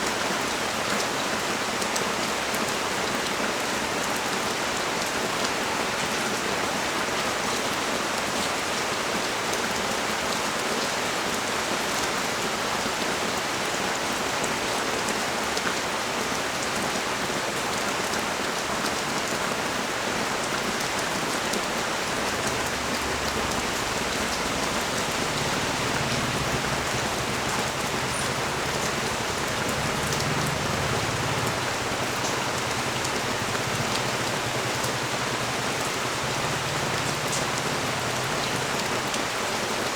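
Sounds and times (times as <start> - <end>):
rain hissing on street: 0.0 - 39.9.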